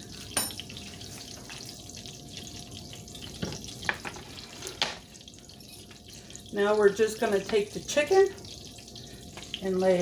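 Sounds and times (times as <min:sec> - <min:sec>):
butter and oil sizzling in a skillet: 0:00.0 - 0:10.0.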